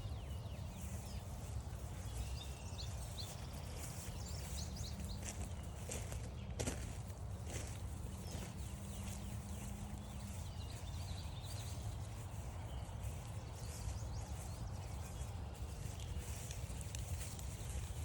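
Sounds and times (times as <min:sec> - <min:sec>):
footsteps on grassy trail: 0:00.0 - 0:18.0.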